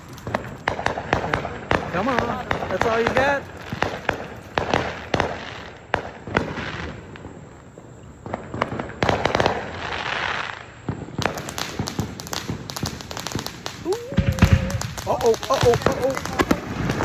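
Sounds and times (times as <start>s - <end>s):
fireworks bangs: 0.0s - 17.0s
fireworks crackling and hissing: 0.0s - 17.0s
fireworks popping: 0.0s - 17.0s.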